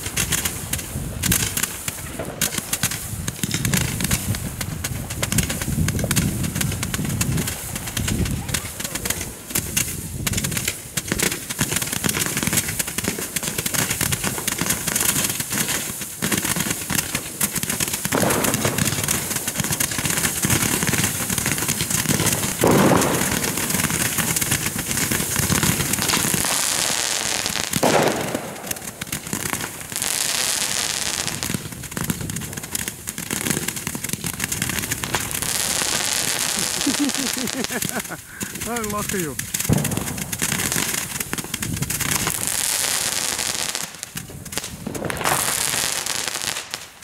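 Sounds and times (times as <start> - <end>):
roman candles firing: 0.0 - 47.0.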